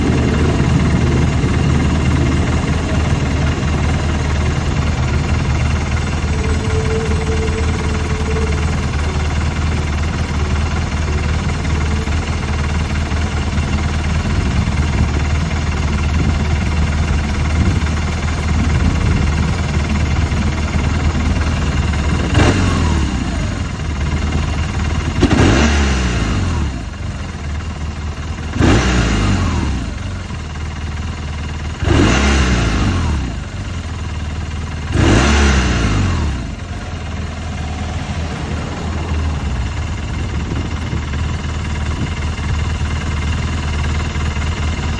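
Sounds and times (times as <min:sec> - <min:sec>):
engine throttle blips: 0:00.0 - 0:44.9
motorcycle engine idling: 0:00.0 - 0:44.9.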